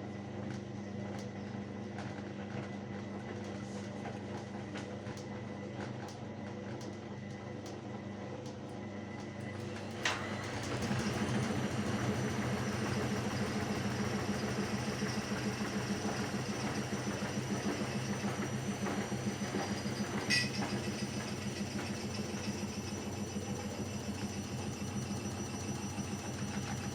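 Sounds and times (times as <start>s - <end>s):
washing machine running: 0.0s - 26.9s.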